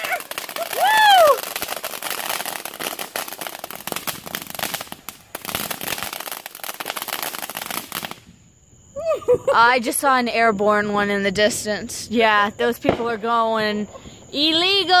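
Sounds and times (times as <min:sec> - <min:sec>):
fireworks crackling and popping: 0:00.0 - 0:08.6, 0:11.4 - 0:15.0.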